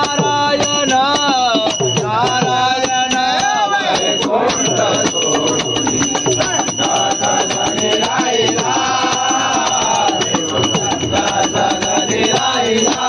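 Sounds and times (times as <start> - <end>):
hand percussion: 0.0 - 13.0
men singing in unison: 0.0 - 13.0.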